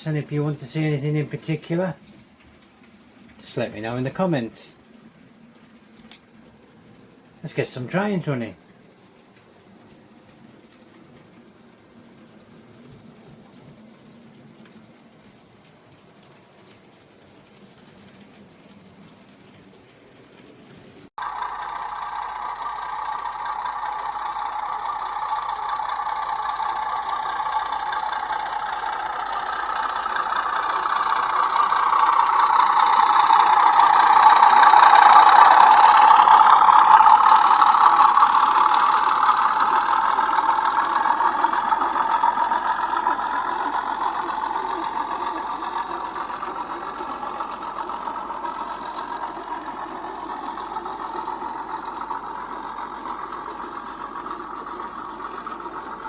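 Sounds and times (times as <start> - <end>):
model train running past: 0.0 - 56.0.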